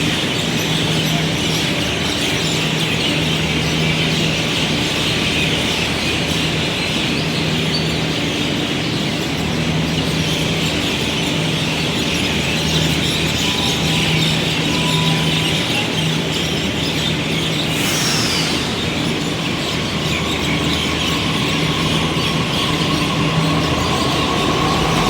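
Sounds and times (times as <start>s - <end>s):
flock of small birds chirping: 0.0s - 25.0s.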